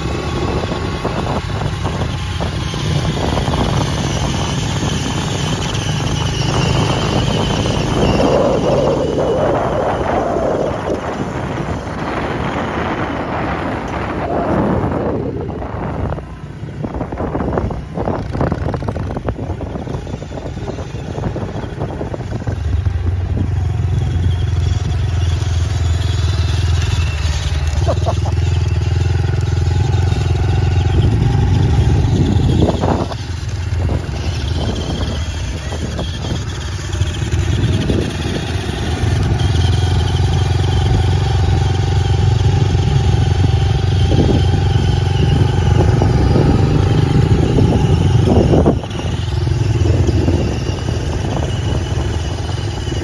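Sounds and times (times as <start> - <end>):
small motorcycle engine running: 0.0 - 53.0.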